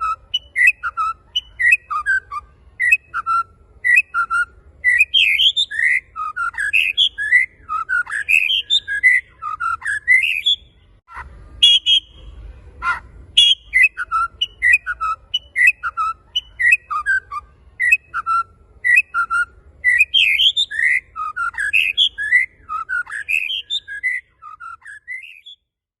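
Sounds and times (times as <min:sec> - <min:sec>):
bird whistling song: 0:00.0 - 0:25.7.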